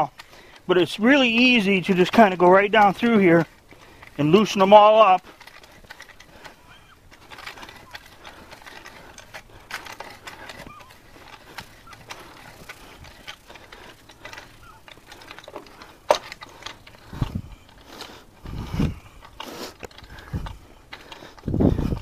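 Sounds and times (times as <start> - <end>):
hoe scraping through soil: 0.0 - 22.0.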